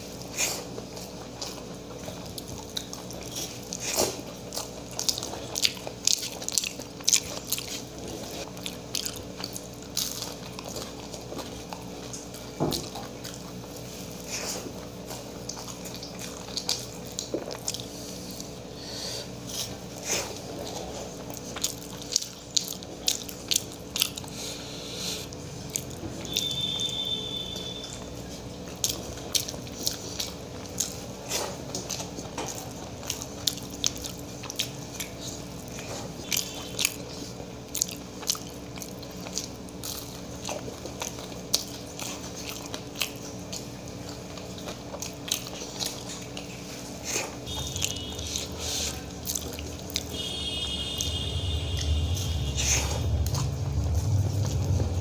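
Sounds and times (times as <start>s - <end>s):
faint steady hum: 0.0s - 55.0s
man chewing food: 0.0s - 55.0s.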